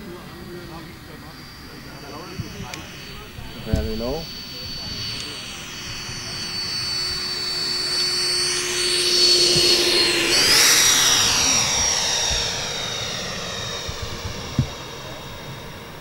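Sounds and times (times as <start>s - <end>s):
model plane ducted fans whining: 0.0s - 16.0s.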